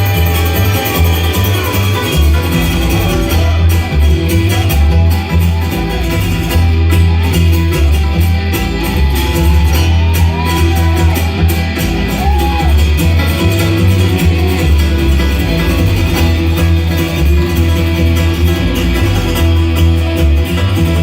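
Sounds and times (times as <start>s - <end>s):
acoustic guitar: 0.0s - 21.0s
bluegrass band playing: 0.0s - 21.0s
steady bass line: 0.0s - 21.0s.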